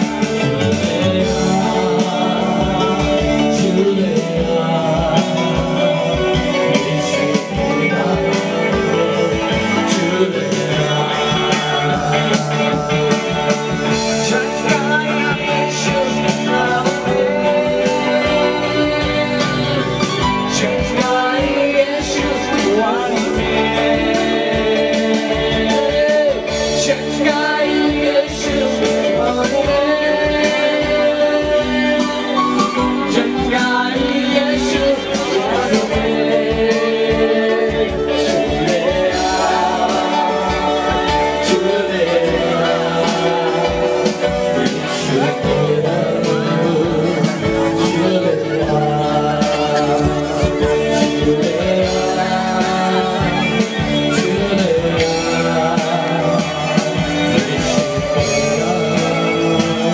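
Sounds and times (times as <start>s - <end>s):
worship song with instruments: 0.0s - 59.9s.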